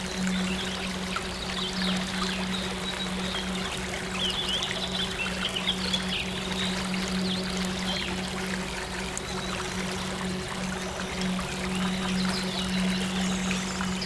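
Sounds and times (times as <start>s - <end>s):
low synth drone: 0.0s - 14.0s
running stream water: 0.0s - 14.0s.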